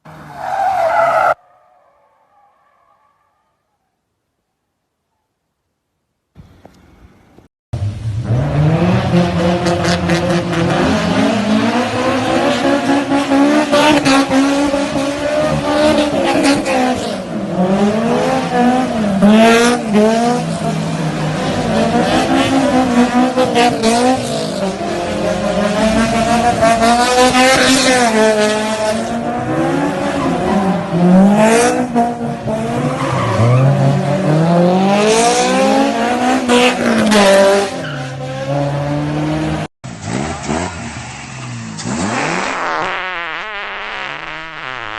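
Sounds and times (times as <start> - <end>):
car engine revving: 7.8 - 44.9.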